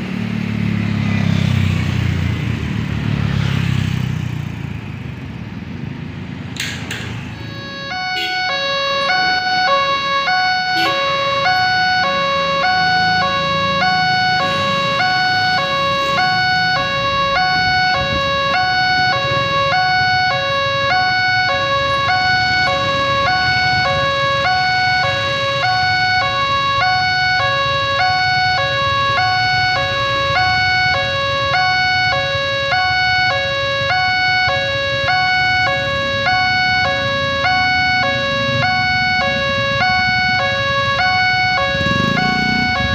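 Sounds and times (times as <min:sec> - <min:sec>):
two-tone electronic warning siren: 0:06.6 - 0:42.9.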